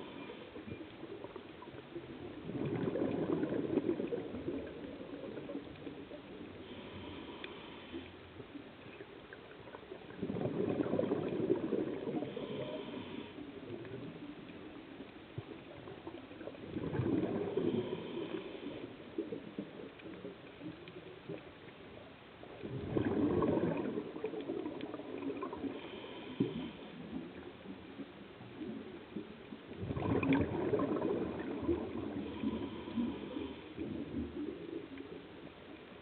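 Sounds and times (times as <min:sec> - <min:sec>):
underwater bubbles exhaled: 0:00.0 - 0:36.0.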